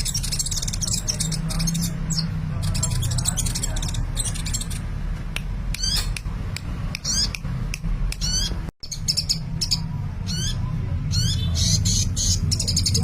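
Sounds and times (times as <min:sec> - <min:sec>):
bird chirping and trilling: 0:00.0 - 0:05.0, 0:05.7 - 0:06.3, 0:06.9 - 0:13.0.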